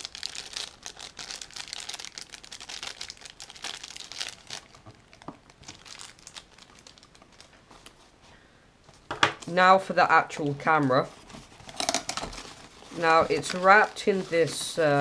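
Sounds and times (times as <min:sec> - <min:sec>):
plastic wrapper crinkling: 0:00.0 - 0:08.1, 0:10.3 - 0:15.0.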